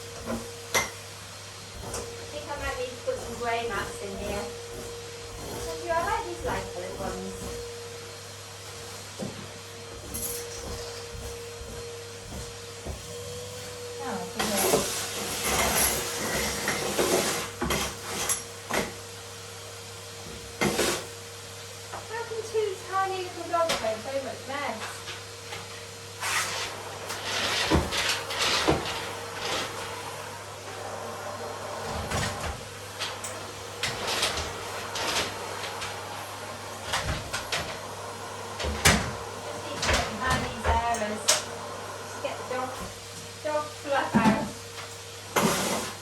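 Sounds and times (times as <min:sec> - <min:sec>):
household items rustling and clattering: 0:00.0 - 0:19.1, 0:23.5 - 0:46.0.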